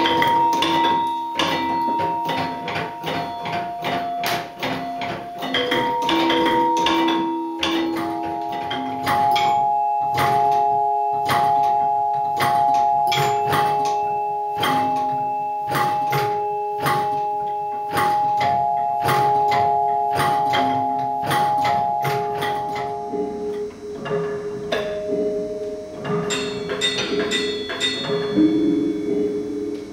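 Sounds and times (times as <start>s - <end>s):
metal bars ringing: 0.0s - 29.9s.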